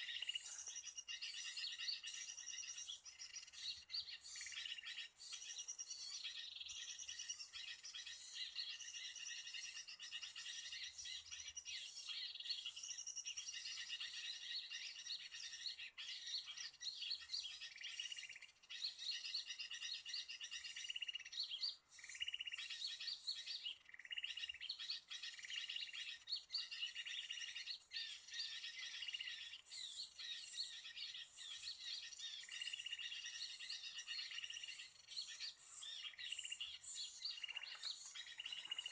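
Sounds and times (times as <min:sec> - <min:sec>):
small birds chirping chorus: 0:00.0 - 0:38.9.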